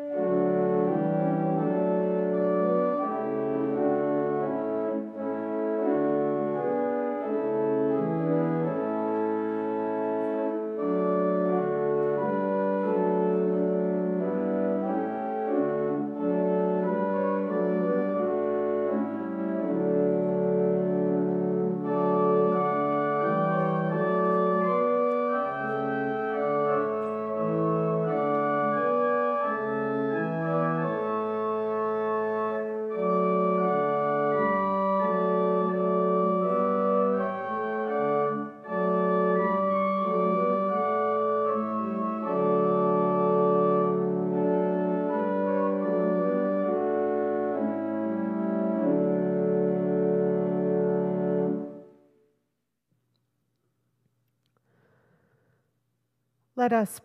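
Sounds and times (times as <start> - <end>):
church organ chords: 0.0 - 52.1.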